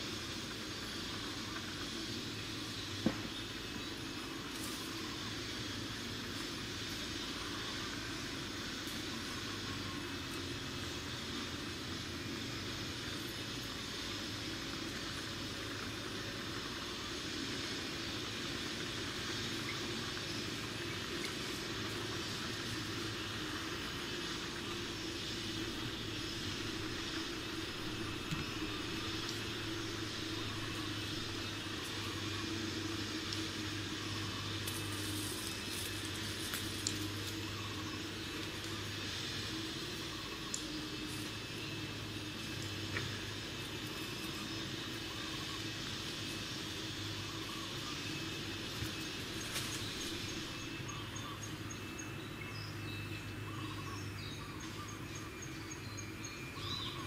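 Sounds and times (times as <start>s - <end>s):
faint high hiss: 0.0s - 57.0s
low drone hum: 0.0s - 57.0s.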